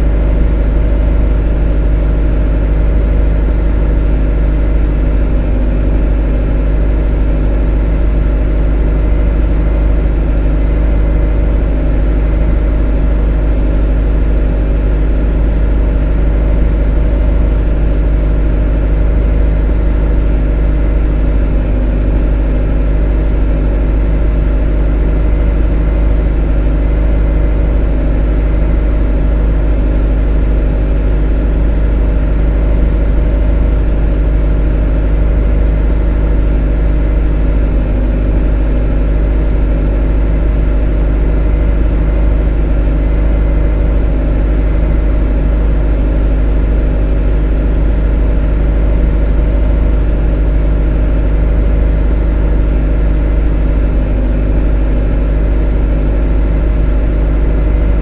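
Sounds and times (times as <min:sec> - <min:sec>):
motor humming: 0:00.0 - 0:58.0.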